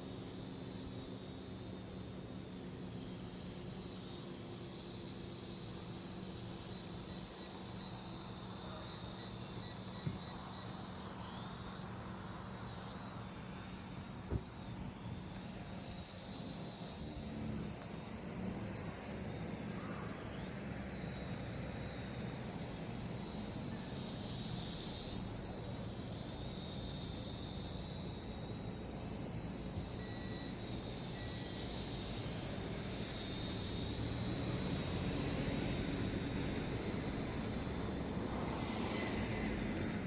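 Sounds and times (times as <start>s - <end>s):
toy drone propellers whining: 0.0s - 40.0s.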